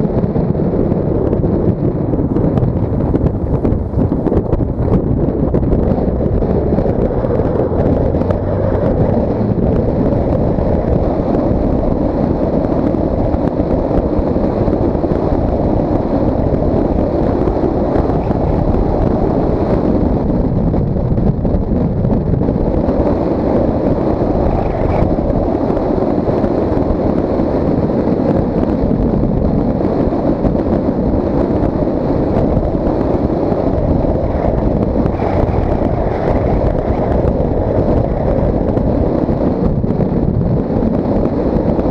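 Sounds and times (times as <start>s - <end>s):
car driving noise: 0.0s - 41.9s
wind rushing over microphone: 0.0s - 41.9s.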